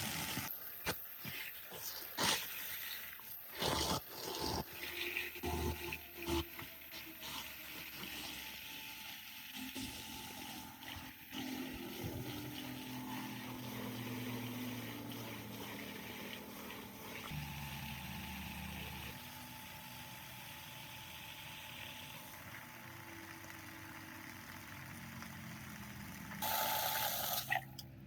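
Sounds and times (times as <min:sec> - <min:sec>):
water pump motor humming: 0:04.2 - 0:27.9.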